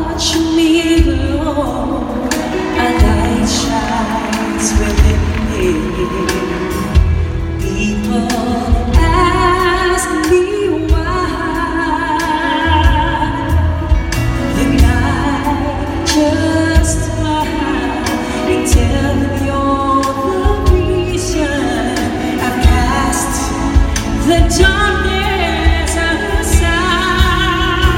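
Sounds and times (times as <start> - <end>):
band playing pop ballad: 0.0 - 27.9
drum beats: 1.0 - 27.9.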